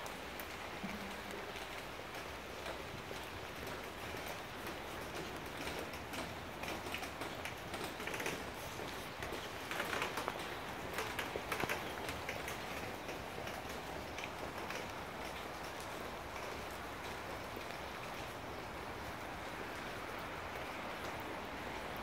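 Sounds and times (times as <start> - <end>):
rain on wet asphalt and puddles: 0.0 - 22.0.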